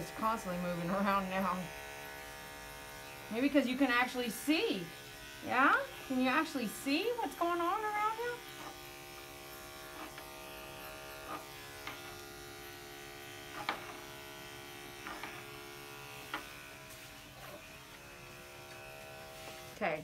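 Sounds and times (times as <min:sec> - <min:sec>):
electric clipper buzzing: 0:00.0 - 0:20.0.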